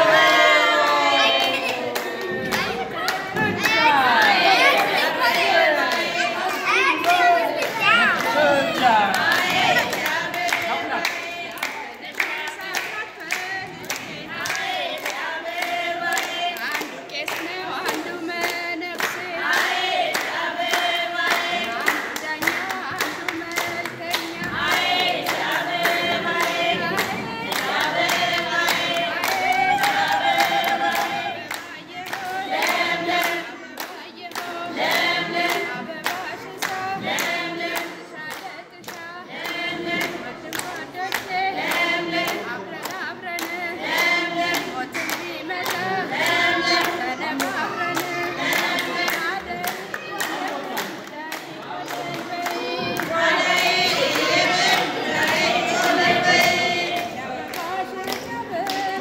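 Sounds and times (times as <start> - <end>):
rhythmic hand-clapping: 0.0 - 59.0
women singing together: 0.0 - 59.0.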